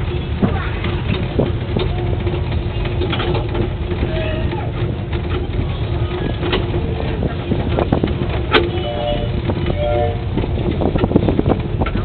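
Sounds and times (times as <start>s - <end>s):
ride-on train rumbling: 0.0s - 12.0s
train cars knocking and rattling: 0.0s - 12.0s.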